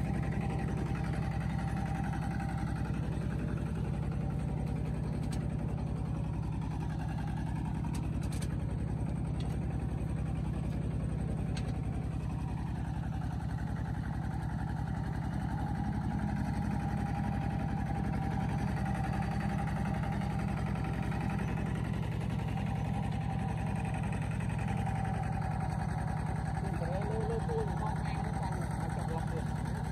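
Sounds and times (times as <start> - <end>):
engine droning: 0.0 - 29.9.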